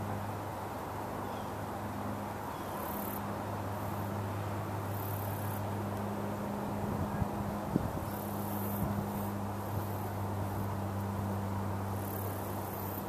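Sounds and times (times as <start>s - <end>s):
outdoor background noise: 0.0s - 13.0s
steady low hum: 0.0s - 13.0s.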